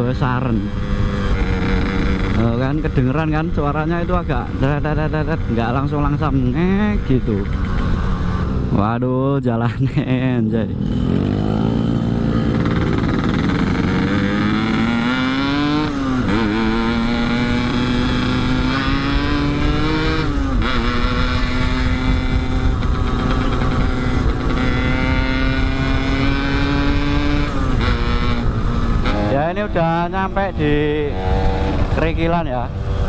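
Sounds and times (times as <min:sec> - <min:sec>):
motorcycle engine accelerating: 0:00.0 - 0:08.9, 0:10.1 - 0:33.0.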